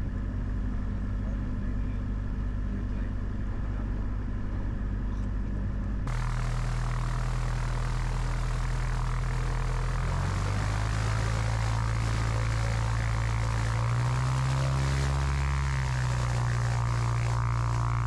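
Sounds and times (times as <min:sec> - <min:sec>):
propeller engine idling: 0:00.0 - 0:18.0.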